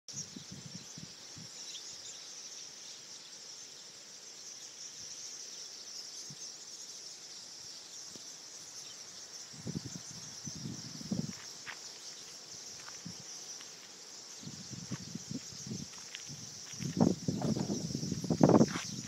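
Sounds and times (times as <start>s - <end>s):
flock of small birds twittering: 0.1s - 19.0s.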